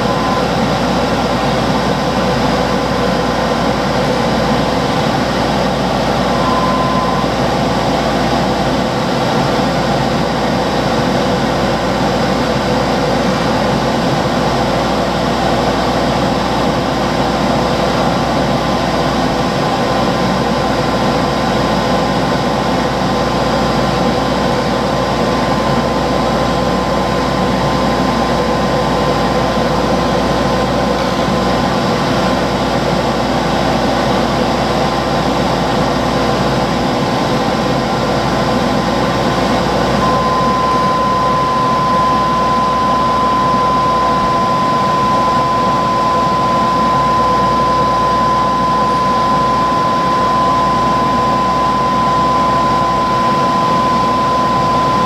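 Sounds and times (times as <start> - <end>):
high steady whine: 0.0 - 55.0.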